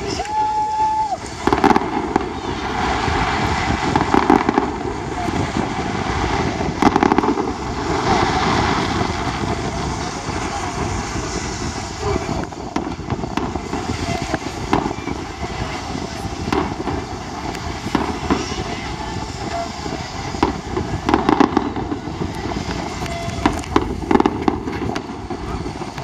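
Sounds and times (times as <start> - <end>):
distant fireworks bangs: 0.0 - 26.0
steady rushing background noise: 0.0 - 26.0.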